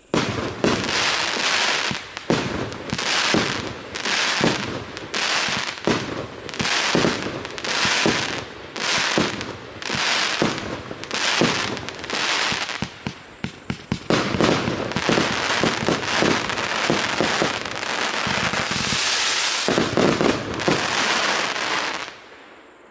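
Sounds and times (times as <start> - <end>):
firework tubes launching: 0.0 - 22.2
firework stars bursting and crackling: 0.0 - 22.9.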